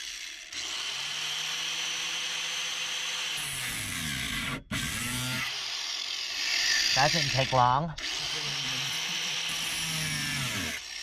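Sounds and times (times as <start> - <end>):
angle grinder cutting metal: 0.0 - 11.0.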